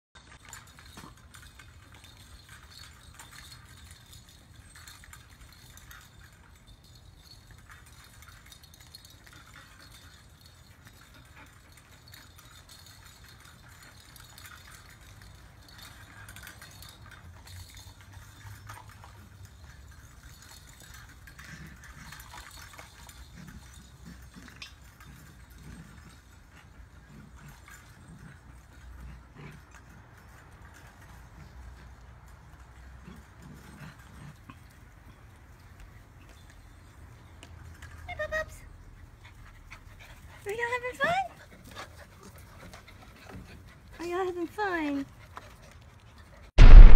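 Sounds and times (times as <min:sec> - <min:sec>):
hanging toys rattling and clinking: 0:00.2 - 0:46.6.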